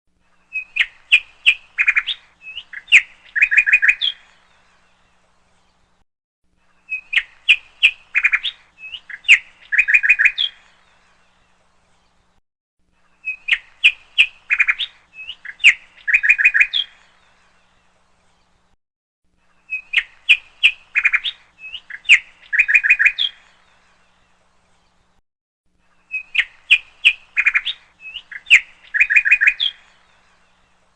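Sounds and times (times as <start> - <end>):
bird chirping tweets and trills: 0.2 - 6.0, 6.6 - 12.4, 13.0 - 18.8, 19.4 - 25.2, 25.8 - 30.9.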